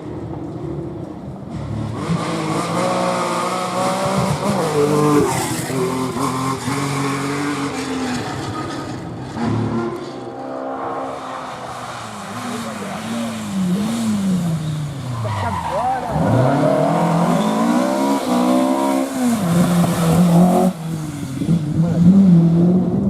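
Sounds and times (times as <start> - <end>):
rally car engine revving: 0.1 - 23.0.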